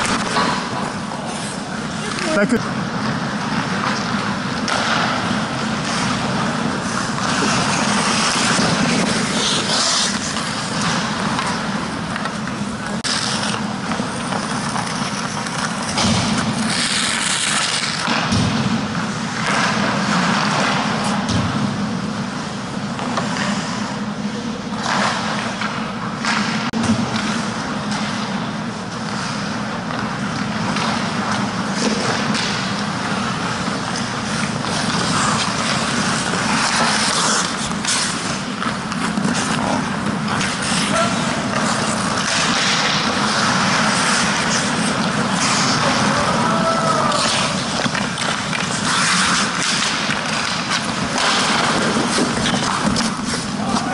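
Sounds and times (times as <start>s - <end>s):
hockey sticks and puck clacking: 0.0s - 53.9s
skates scraping on ice: 0.0s - 53.9s.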